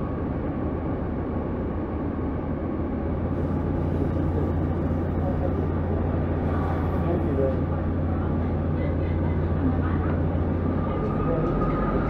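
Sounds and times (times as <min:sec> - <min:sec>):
steady low hum: 0:00.0 - 0:12.0
train wheels rumbling on rail: 0:00.0 - 0:12.0.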